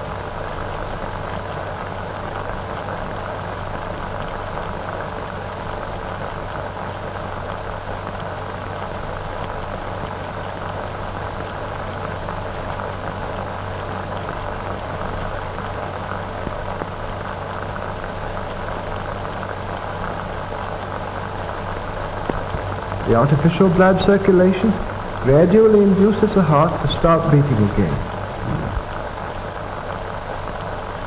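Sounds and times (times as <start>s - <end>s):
film soundtrack hiss and crackle: 0.0s - 31.0s.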